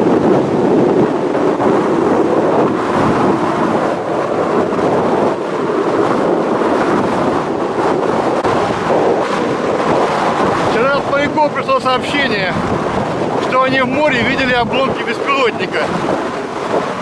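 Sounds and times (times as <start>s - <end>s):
surf waves breaking: 0.0s - 17.0s
wind buffeting microphone: 0.0s - 17.0s.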